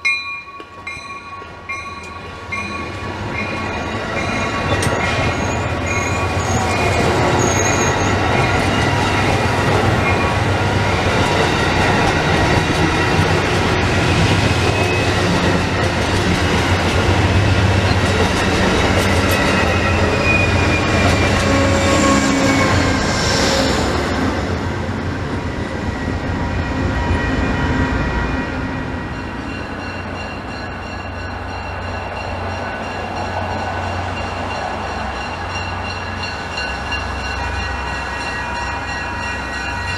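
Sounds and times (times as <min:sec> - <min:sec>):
train wheels squealing on rails: 0:00.0 - 0:24.6, 0:25.3 - 0:39.9
train rumble: 0:00.0 - 0:39.9.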